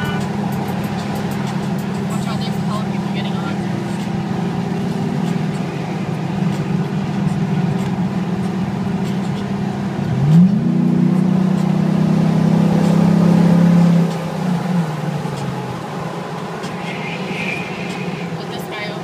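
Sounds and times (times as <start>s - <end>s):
truck engine from inside cab: 0.0s - 19.0s.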